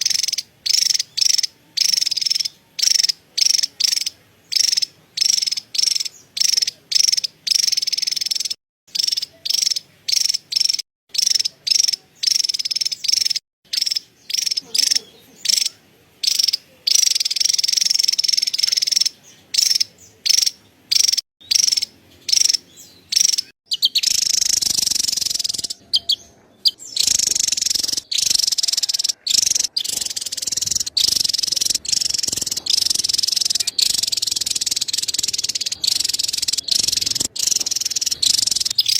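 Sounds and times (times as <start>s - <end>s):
bird rapid rattling calls: 0.0s - 38.9s.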